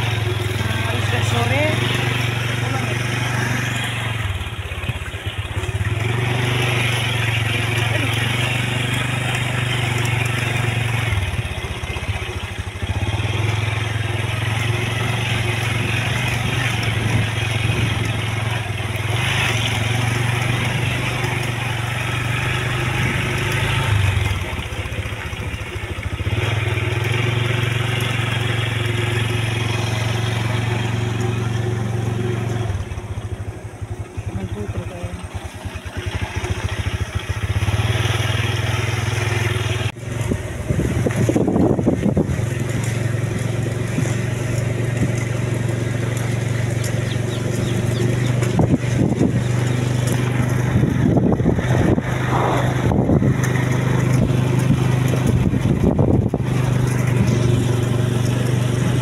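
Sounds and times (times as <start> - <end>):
motorcycle engine running: 0.0 - 59.0
road noise: 0.0 - 59.0
wind: 0.0 - 59.0.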